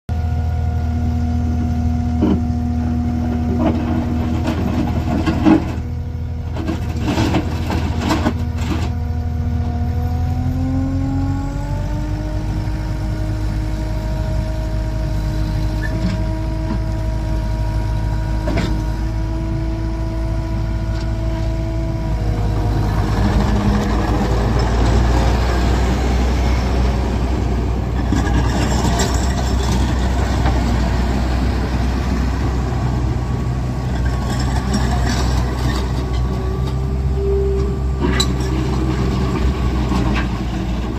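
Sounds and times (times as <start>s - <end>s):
diesel engine running: 0.1s - 40.9s.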